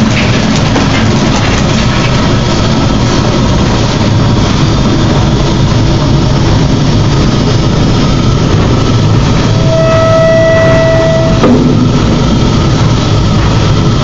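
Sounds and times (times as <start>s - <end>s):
dense rushing noise: 0.0s - 14.0s
grinder engine drone: 2.2s - 14.0s.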